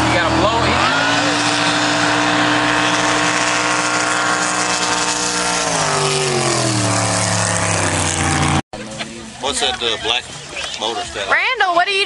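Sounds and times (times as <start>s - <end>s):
jet boat engine running: 0.0s - 11.4s.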